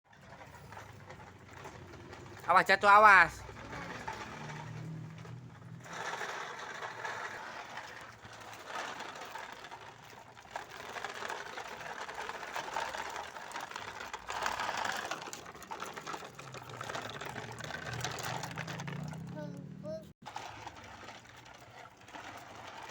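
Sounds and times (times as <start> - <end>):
toy truck rattling and whirring: 0.1 - 22.9.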